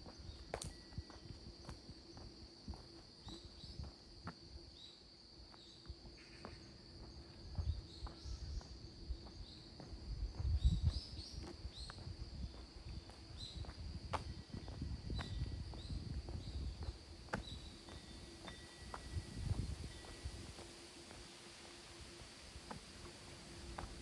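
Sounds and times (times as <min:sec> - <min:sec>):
light footsteps: 0:00.0 - 0:04.5, 0:05.5 - 0:24.0
crickets chirping: 0:00.0 - 0:24.0.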